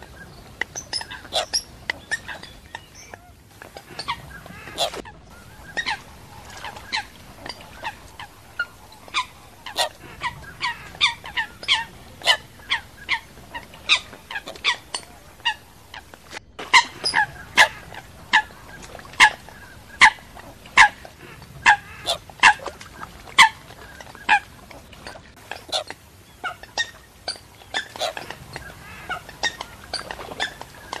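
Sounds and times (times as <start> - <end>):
coots calling: 0.0 - 31.0.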